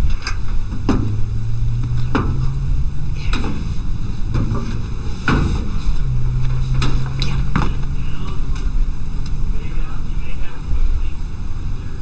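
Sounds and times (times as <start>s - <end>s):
sharp engine knocks: 0.0s - 10.8s
truck engine idling: 0.0s - 12.0s.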